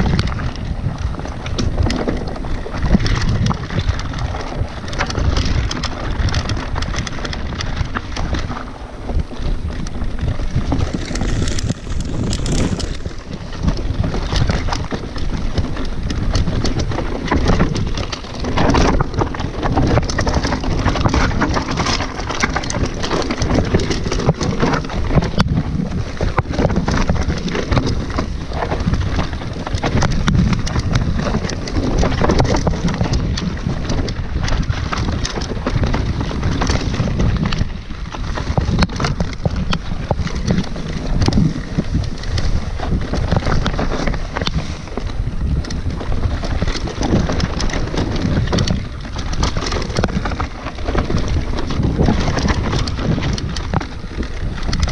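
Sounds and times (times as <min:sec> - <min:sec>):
bike rattling over stones: 0:00.0 - 0:54.9
wind on microphone: 0:00.0 - 0:54.9.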